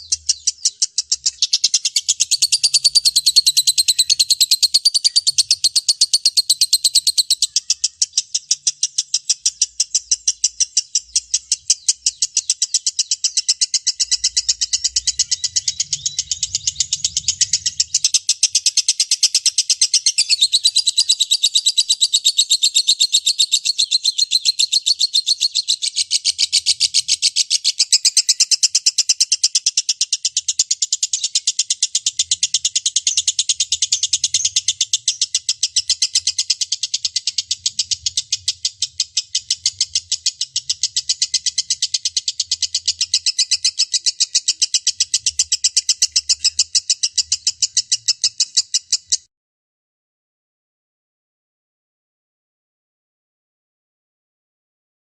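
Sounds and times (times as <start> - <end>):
lovebird chattering trill: 0.0 - 49.3.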